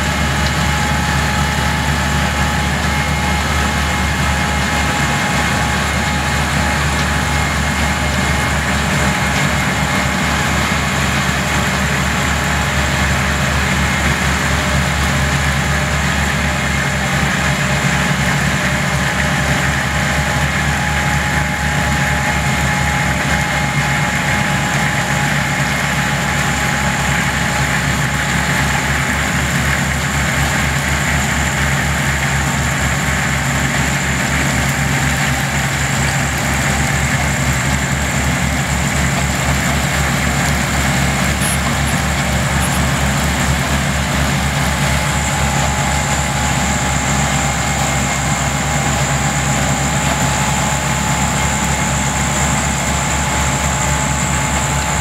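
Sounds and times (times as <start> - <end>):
diesel engines throbbing: 0.0 - 55.0.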